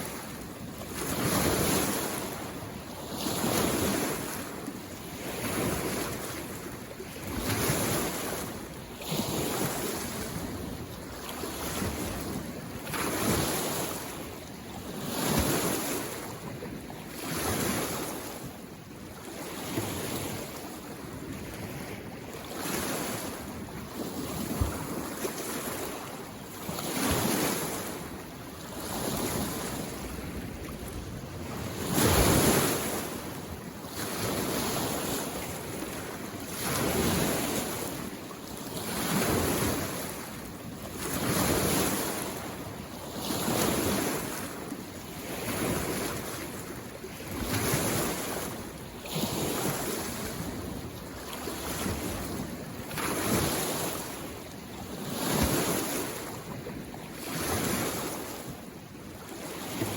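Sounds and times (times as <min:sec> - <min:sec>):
lake waves washing on shore: 0:00.0 - 0:59.9.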